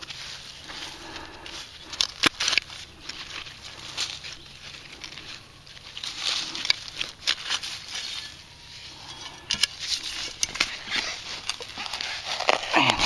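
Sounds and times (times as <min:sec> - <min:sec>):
sharp clicks of tool on soil: 0:00.0 - 0:08.4, 0:09.0 - 0:13.0
digging tool scraping dirt: 0:00.0 - 0:13.0.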